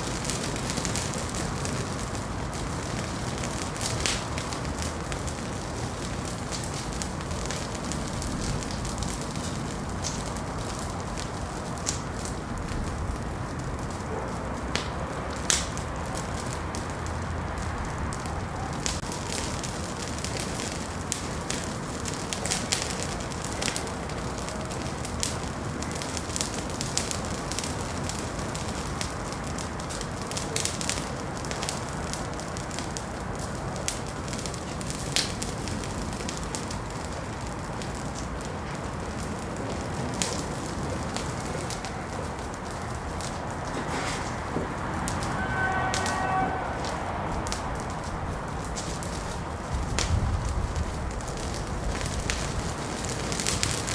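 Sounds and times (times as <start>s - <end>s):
fire crackling and popping: 0.0s - 53.9s
fire rumbling: 0.0s - 53.9s.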